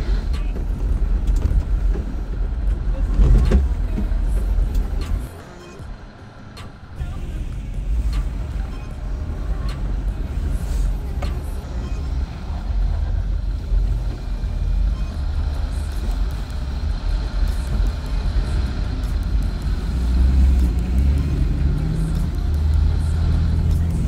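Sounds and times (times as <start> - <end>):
jeep engine low rumble: 0.0 - 24.0.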